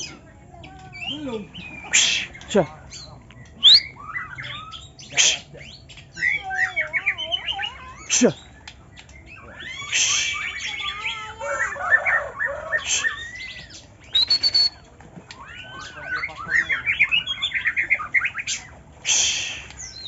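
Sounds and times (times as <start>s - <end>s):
harsh rasping bird calls: 0.0s - 20.0s
songbirds whistling: 0.0s - 20.0s.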